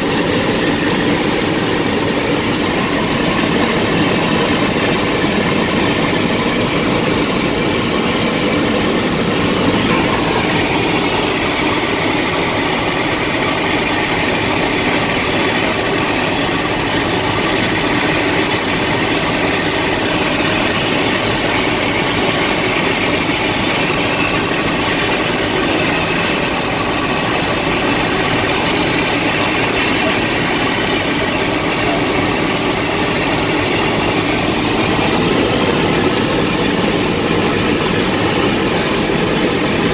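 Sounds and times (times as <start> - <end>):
helicopter cabin drone: 0.0 - 39.9.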